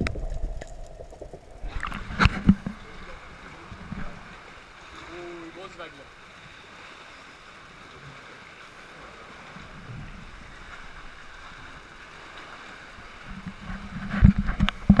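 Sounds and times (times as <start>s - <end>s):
water sloshing and lapping in cave: 0.0s - 15.0s
waves slapping against boat: 1.2s - 15.0s.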